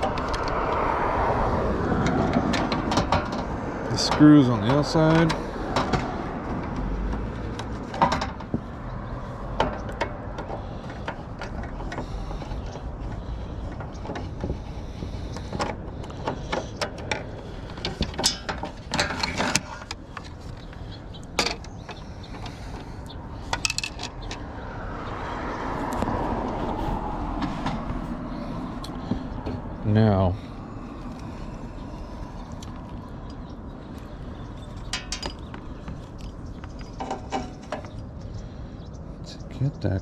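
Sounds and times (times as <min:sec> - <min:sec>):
broad rushing noise: 0:00.0 - 0:32.6.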